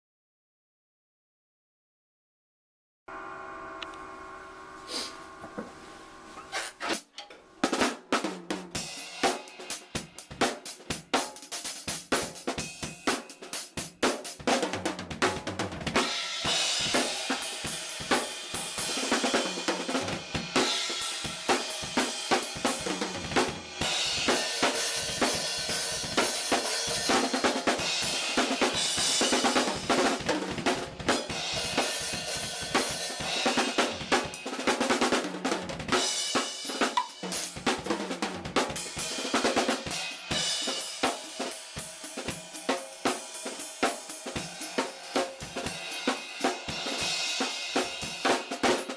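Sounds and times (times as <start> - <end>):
drum kit playing: 4.9 - 48.9.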